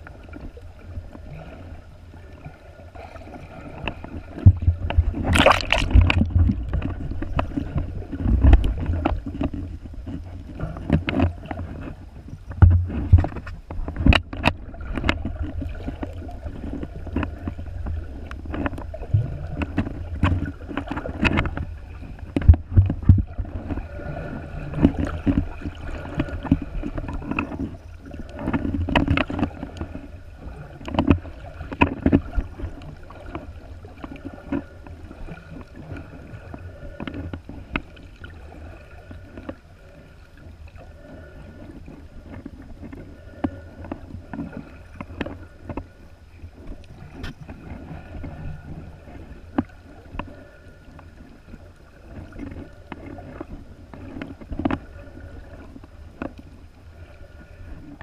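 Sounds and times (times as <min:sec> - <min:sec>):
underwater water rumble: 0:00.0 - 0:58.0.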